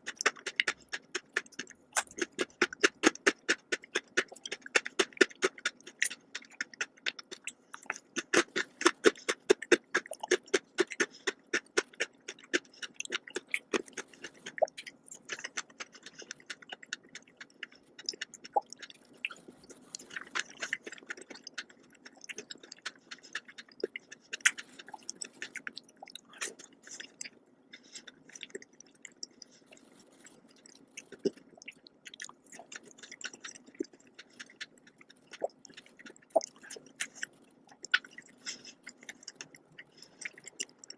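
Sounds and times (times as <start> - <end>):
chewing and wet mouth clicks: 0.0 - 40.9
faint steady hum: 0.0 - 40.9.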